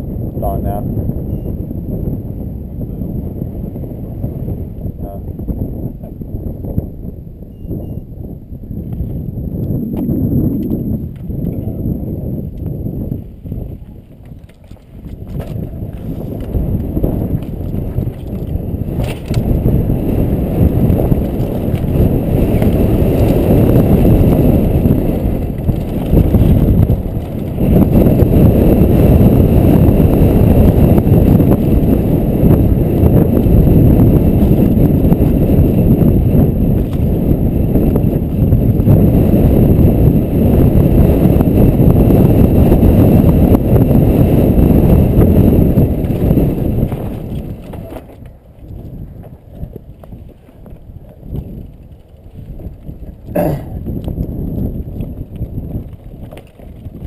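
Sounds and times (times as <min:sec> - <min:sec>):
wind buffeting microphone: 0:00.0 - 0:57.0
tyres rolling over dirt trail: 0:08.7 - 0:57.0.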